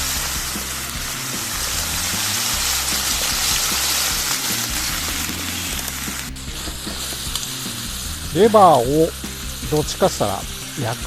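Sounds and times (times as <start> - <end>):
background music: 0.0 - 11.0
food sizzling in oil: 0.0 - 11.0.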